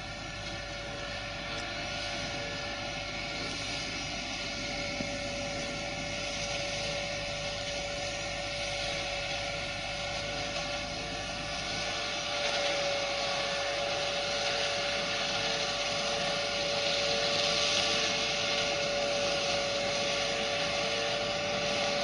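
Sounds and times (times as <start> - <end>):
tractor engine running: 0.0 - 22.0
trimmer whine: 0.0 - 22.0.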